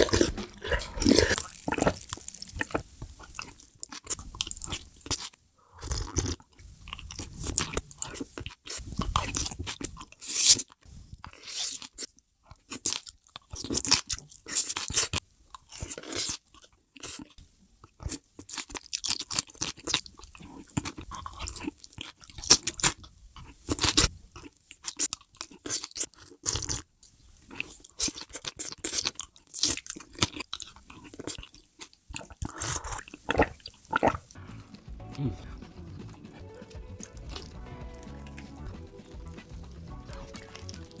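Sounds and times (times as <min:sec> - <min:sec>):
crunchy chewing: 0:00.0 - 0:41.0.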